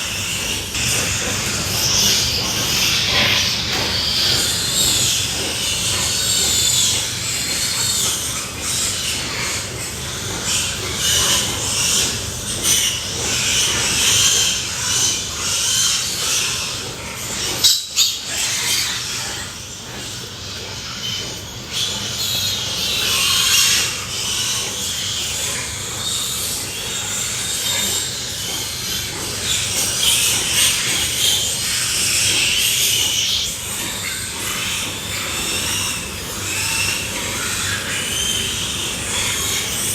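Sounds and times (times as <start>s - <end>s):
pigs squealing and grunting: 0.0s - 39.9s.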